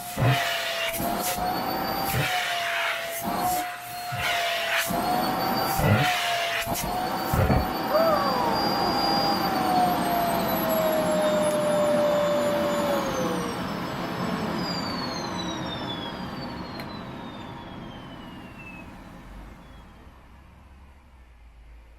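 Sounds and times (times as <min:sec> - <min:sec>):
vacuum cleaner motor whining: 0:00.0 - 0:19.9.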